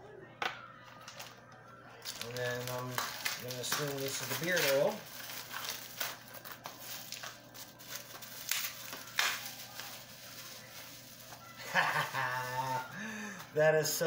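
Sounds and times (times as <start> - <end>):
packaging rustling and crinkling: 1.0 - 13.5.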